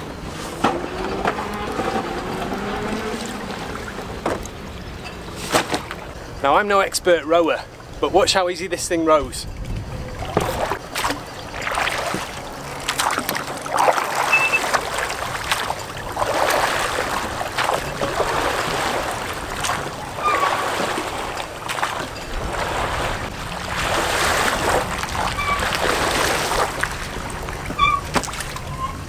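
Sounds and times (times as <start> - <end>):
oars splashing in water: 0.3 - 6.3, 9.6 - 29.0.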